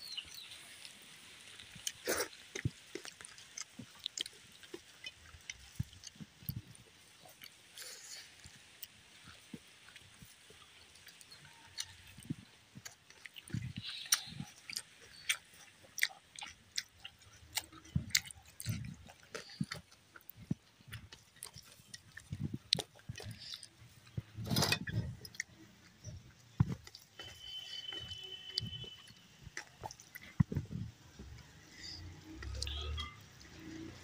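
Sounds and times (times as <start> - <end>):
wet chewing and lip smacks: 0.1 - 34.0.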